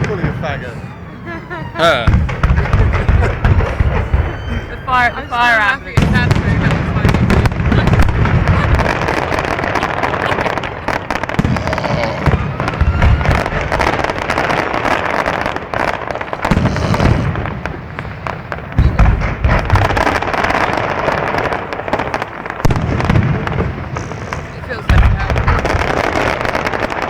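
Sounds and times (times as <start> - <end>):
firework booms: 0.0 - 27.0
firework crackles and pops: 0.0 - 27.0.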